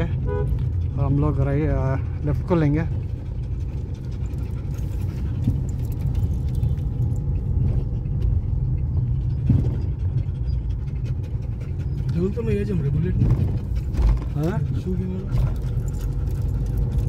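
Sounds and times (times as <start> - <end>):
car driving rumble: 0.0 - 17.0
surrounding traffic noise: 0.0 - 17.0.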